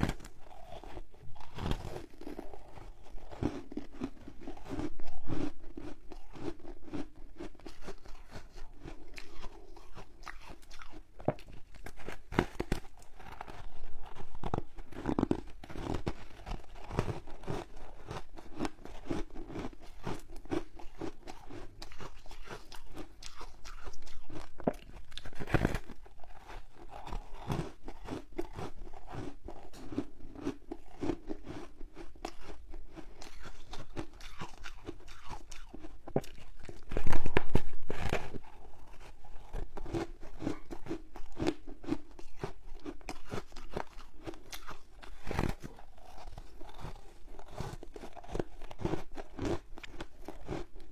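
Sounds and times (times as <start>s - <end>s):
crunchy chewing of frozen foam: 0.0s - 50.9s.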